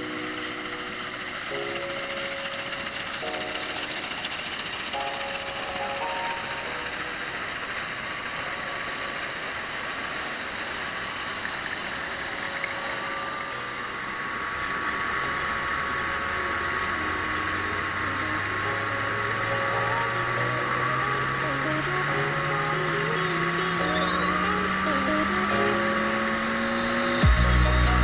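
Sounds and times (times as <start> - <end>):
combine harvester running: 0.0 - 28.0
steady machinery whine: 0.0 - 28.0.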